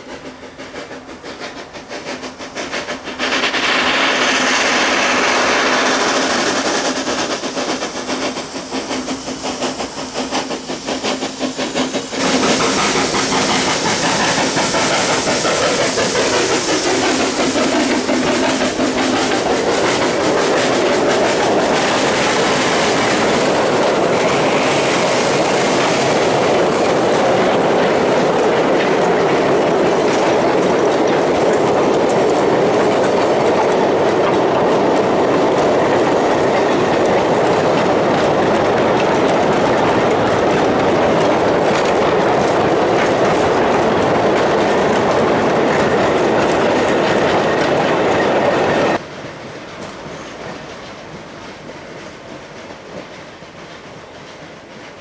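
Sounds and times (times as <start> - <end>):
steam locomotive approaching: 0.0 - 55.0.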